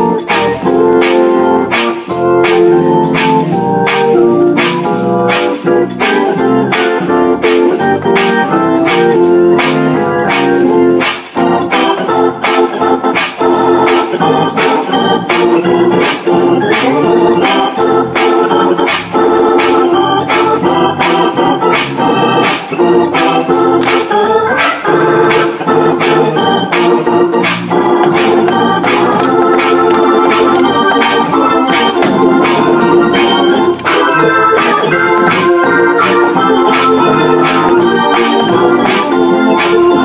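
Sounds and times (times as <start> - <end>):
organ playing hymn chords: 0.0 - 40.0.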